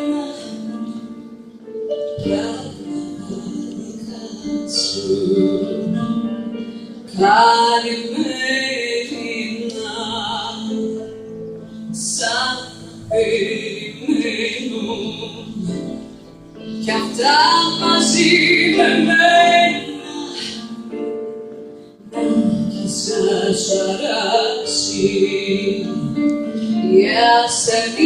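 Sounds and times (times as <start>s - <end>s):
orchestra music: 0.0s - 28.0s.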